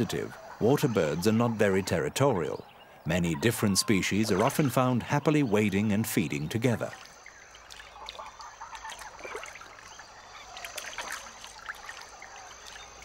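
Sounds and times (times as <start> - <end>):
water birds calling: 0.0 - 13.0.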